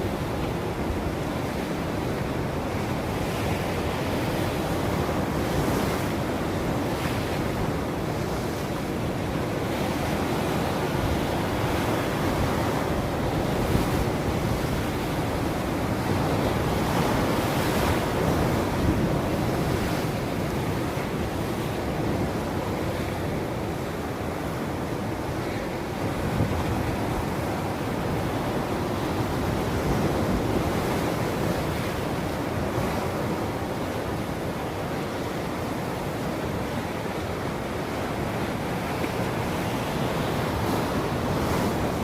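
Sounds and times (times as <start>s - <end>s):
ocean waves breaking on shore: 0.0s - 42.0s.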